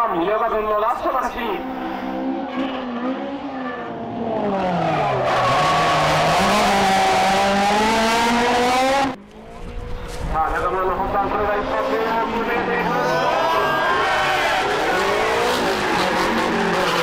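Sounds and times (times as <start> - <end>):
car engine revving: 1.6 - 9.8, 10.6 - 17.0.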